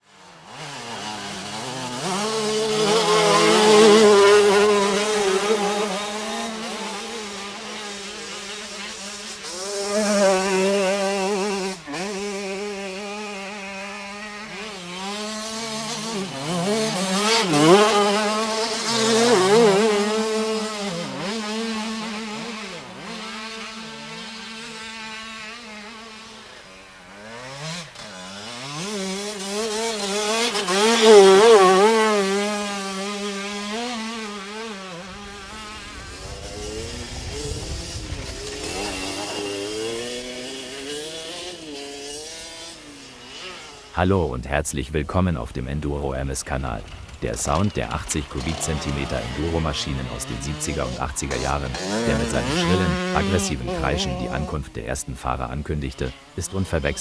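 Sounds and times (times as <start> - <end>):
motorcycles revving and passing: 0.0 - 57.0.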